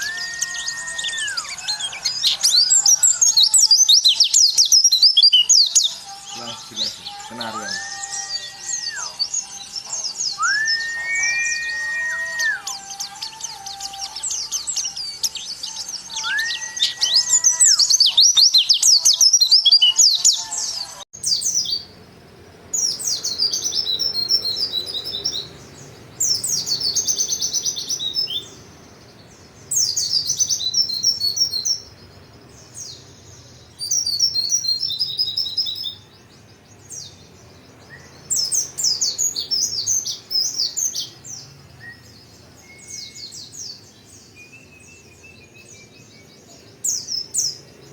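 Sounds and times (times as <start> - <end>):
bird twittering song: 0.0 - 47.9.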